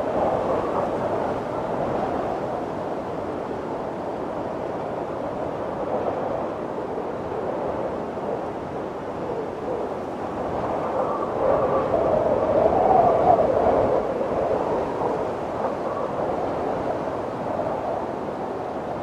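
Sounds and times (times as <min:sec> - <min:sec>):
wind blowing: 0:00.0 - 0:19.0.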